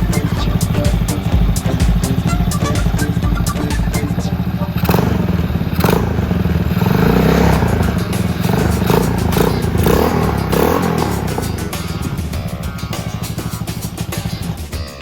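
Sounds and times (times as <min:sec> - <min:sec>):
mini-bike engine running: 0:00.0 - 0:14.8.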